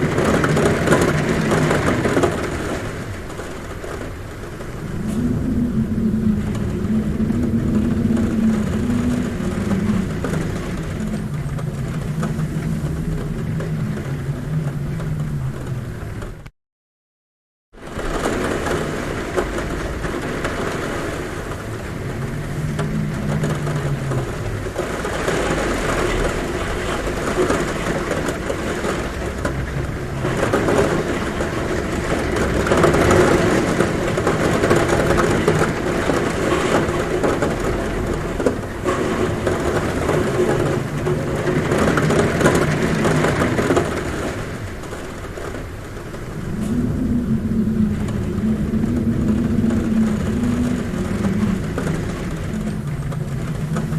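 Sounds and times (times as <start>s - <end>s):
heavy rain on a roof: 0.0s - 16.5s, 17.7s - 53.9s
wind moaning: 0.0s - 16.5s, 17.8s - 53.9s.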